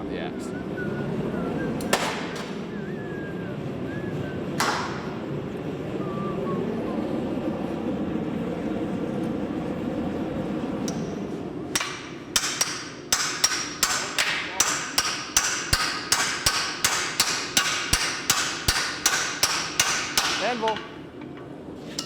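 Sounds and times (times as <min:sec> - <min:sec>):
gas forge burner roaring: 0:00.0 - 0:22.0.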